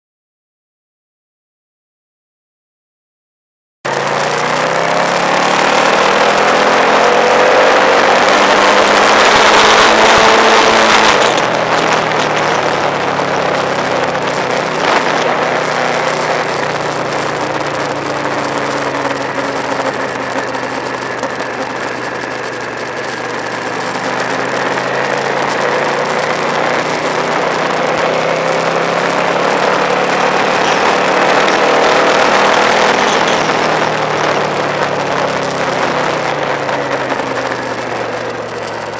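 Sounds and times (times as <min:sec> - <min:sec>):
motorcycle engine revving: 0:03.9 - 0:38.9.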